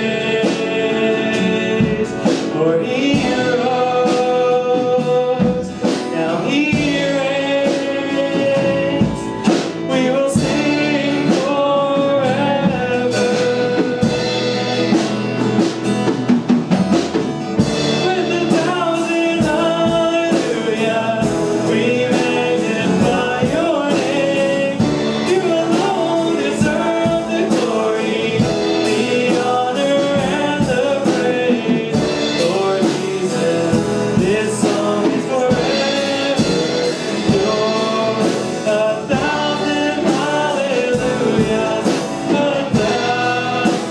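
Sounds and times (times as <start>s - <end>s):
person singing: 0.0s - 15.9s, 17.0s - 43.9s
drum kit: 0.0s - 43.9s
guitar: 0.0s - 43.9s
live worship band playing: 0.0s - 43.9s.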